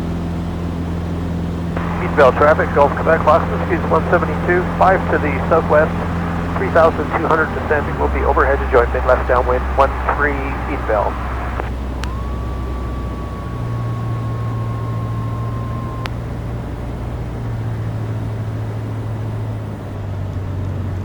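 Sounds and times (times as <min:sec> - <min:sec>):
piston aircraft engine droning: 0:00.0 - 0:21.0
steady high tone: 0:01.8 - 0:19.6.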